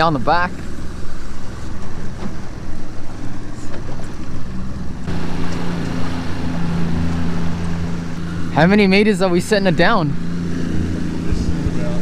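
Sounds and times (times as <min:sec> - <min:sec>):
outboard motor running: 0:00.0 - 0:12.0
water rushing past boat: 0:00.0 - 0:12.0
wind: 0:00.0 - 0:12.0.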